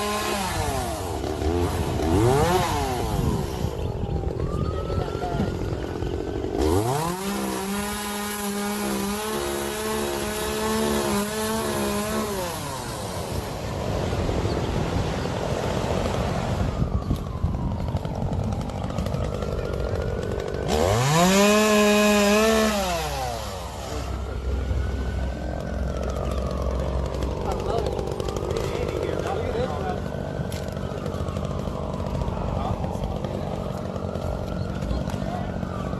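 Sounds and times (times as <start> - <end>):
chainsaw revving: 0.0 - 3.9, 5.4 - 14.8, 18.0 - 35.9.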